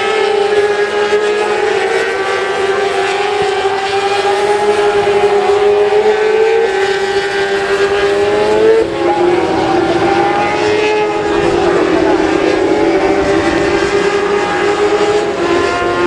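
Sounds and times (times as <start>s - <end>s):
race motorcycles at high revs: 0.0s - 16.0s.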